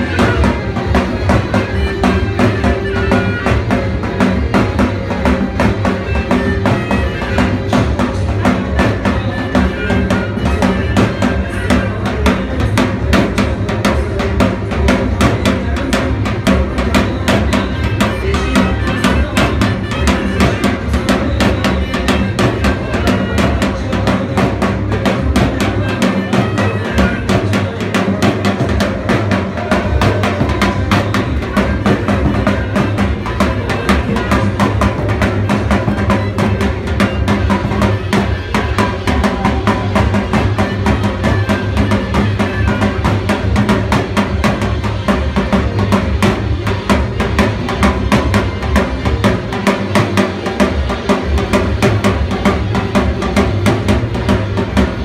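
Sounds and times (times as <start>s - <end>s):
dance music with fast drums: 0.0s - 55.0s.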